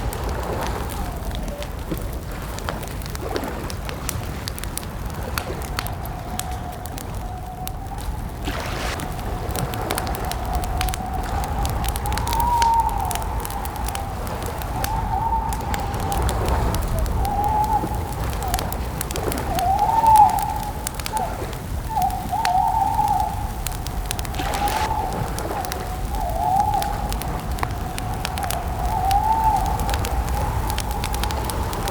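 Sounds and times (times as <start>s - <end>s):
campfire crackling and popping: 0.0s - 31.9s
wavering whistling tone: 5.8s - 31.9s.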